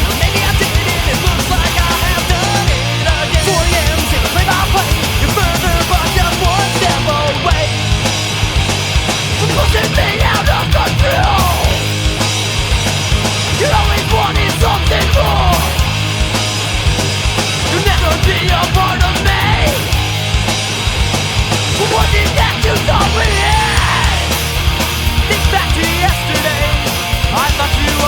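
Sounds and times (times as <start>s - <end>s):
punk rock band playing: 0.0s - 28.0s.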